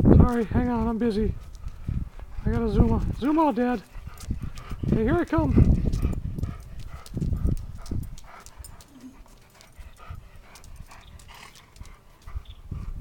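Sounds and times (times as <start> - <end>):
dog panting: 1.3 - 13.0.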